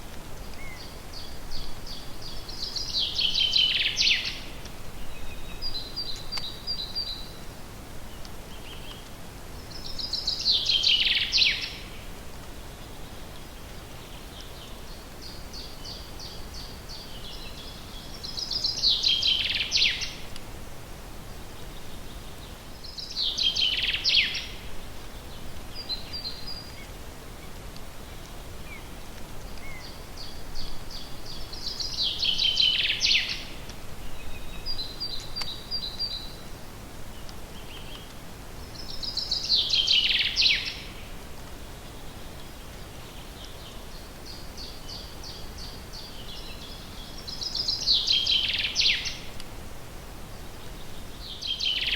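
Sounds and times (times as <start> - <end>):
faint steady hiss: 0.0 - 51.9
songbird singing: 0.0 - 51.9.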